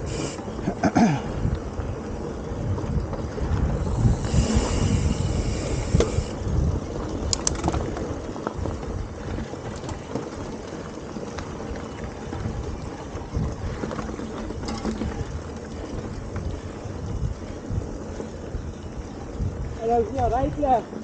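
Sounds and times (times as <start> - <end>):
wind on microphone: 0.0 - 10.1, 11.1 - 21.0
bike clicks and rattles: 0.0 - 21.0
tyres rumbling on dirt: 0.0 - 21.0.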